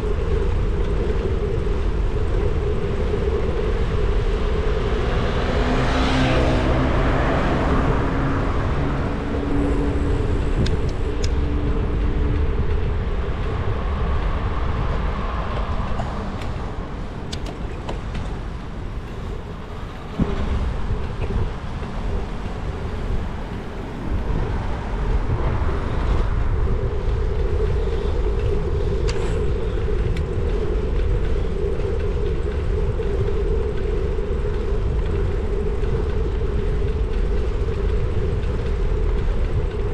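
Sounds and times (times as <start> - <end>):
road noise: 0.0 - 39.9
wind buffeting: 0.0 - 39.9.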